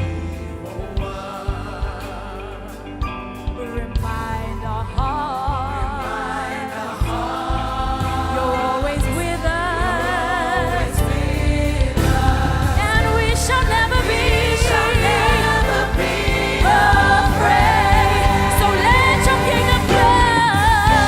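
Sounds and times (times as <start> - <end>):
choir singing with vibrato: 0.0 - 4.0, 4.9 - 21.0
bass-heavy band: 0.0 - 21.0.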